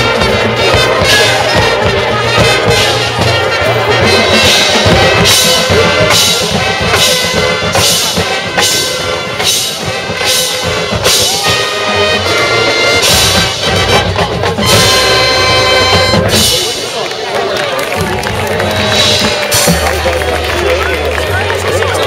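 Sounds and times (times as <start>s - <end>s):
sharp percussion hits: 0.0s - 20.9s
marching band playing: 0.0s - 22.0s.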